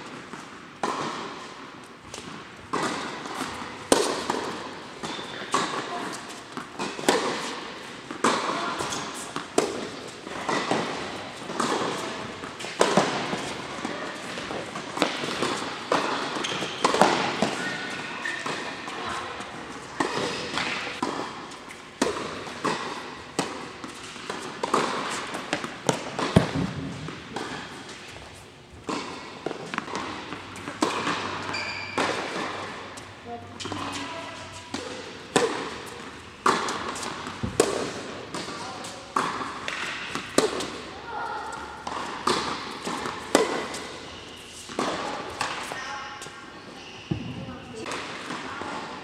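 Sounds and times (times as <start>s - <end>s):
tennis balls bouncing on court: 0.0s - 46.0s, 47.1s - 49.0s
tennis balls struck by rackets: 0.1s - 45.8s, 47.1s - 49.0s.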